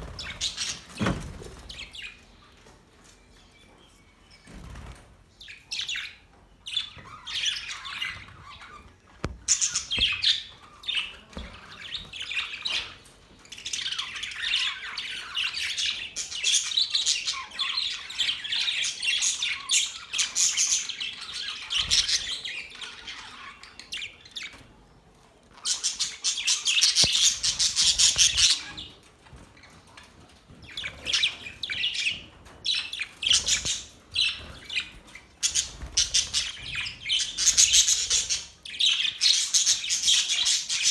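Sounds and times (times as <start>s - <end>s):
budgerigars chattering and chirping: 5.5s - 24.6s, 25.6s - 29.0s, 30.6s - 40.9s.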